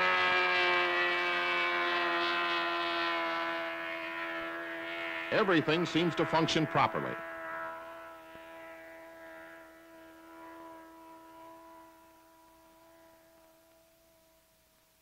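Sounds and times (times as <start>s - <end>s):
outboard motor at high speed: 0.0s - 15.0s.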